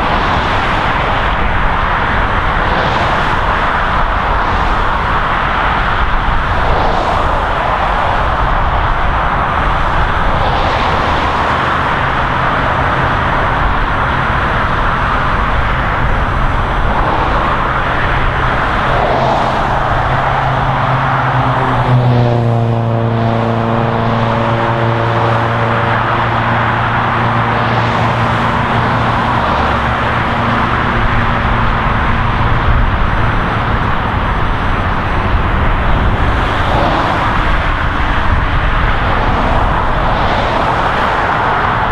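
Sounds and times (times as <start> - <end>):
highway traffic: 0.0 - 41.9
vehicle engine passing by: 0.0 - 41.9.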